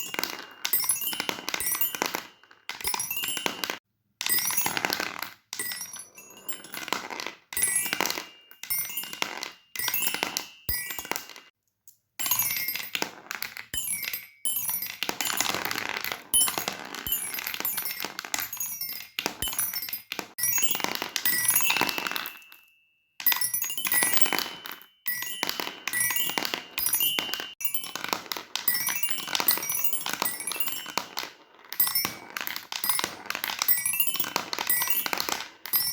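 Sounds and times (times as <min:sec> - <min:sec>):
fidget toys clicking and clinking: 0:00.0 - 0:35.9.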